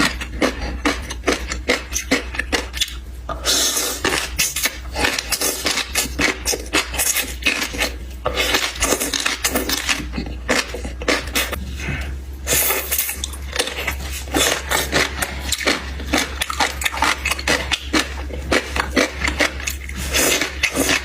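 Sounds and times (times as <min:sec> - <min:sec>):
person eating noisily: 0:00.0 - 0:21.0
steady low hum: 0:00.0 - 0:21.0.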